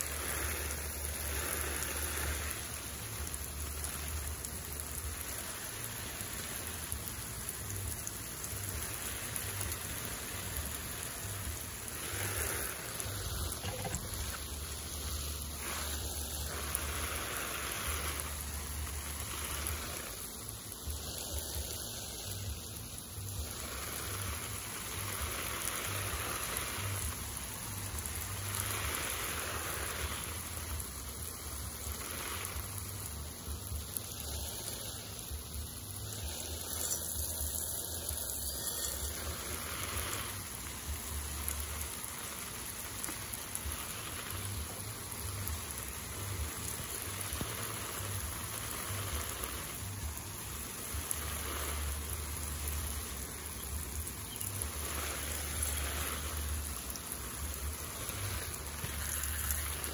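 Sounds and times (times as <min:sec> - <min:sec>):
water falling on plants: 0:00.0 - 0:59.9.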